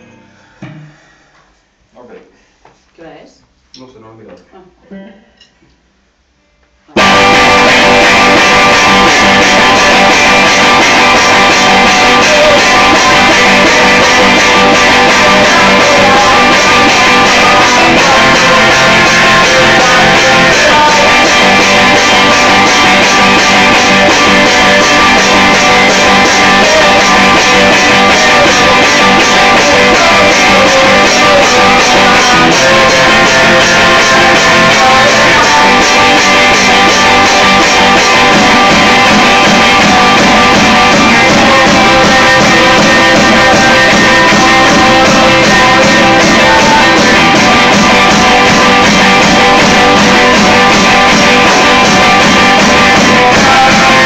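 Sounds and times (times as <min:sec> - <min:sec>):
loud punk rock music: 0:07.0 - 0:54.0.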